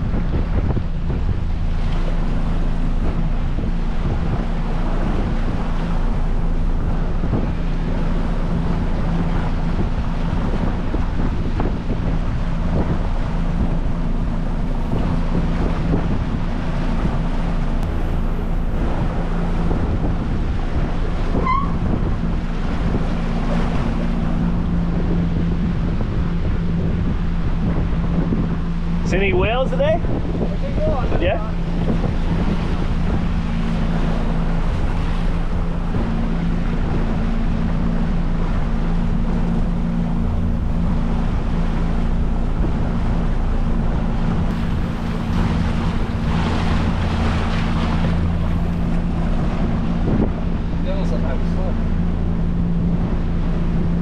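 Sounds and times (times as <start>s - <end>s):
boat engine humming: 0.0s - 54.0s
water rushing: 0.0s - 54.0s
wind buffeting microphone: 0.0s - 54.0s.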